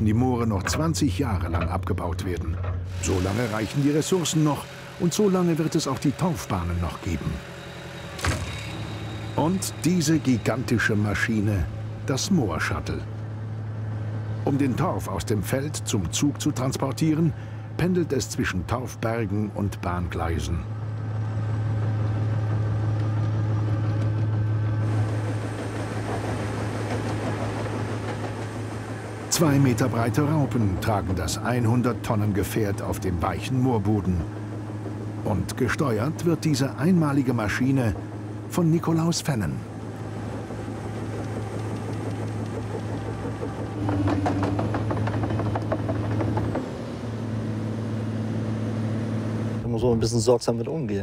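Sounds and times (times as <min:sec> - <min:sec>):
crawler tracks clanking: 0:00.0 - 0:20.7, 0:21.7 - 0:49.0
heavy machine engine droning: 0:00.0 - 0:50.4.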